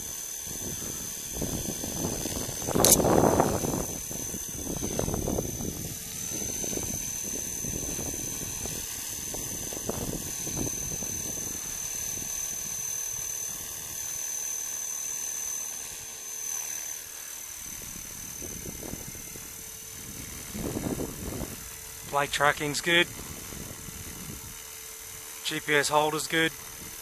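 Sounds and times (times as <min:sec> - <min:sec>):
rc helicopter rotor with whine: 0:00.0 - 0:27.0.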